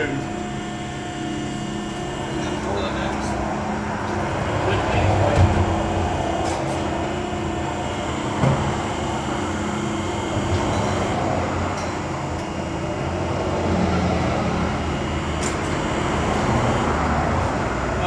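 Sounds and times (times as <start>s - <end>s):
vee eight engine running: 0.0s - 18.0s.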